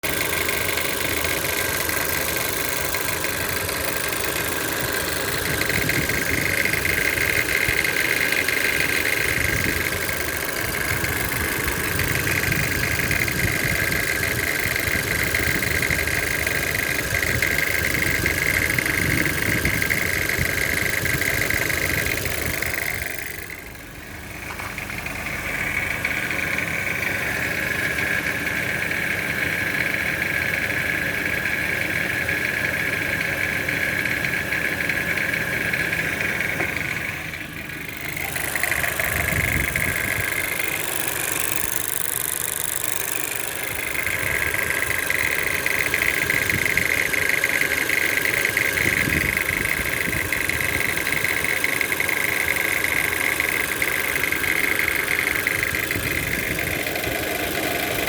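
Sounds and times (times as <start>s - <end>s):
car engine rattling: 0.0s - 58.0s.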